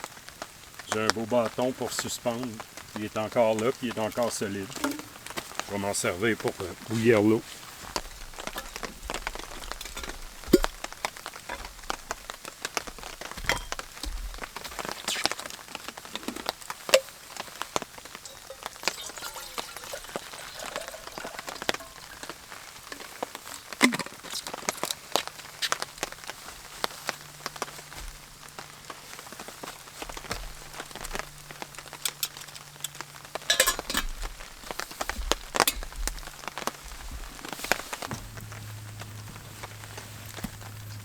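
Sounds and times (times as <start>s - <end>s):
rain dripping onto a tarp: 0.0s - 41.0s.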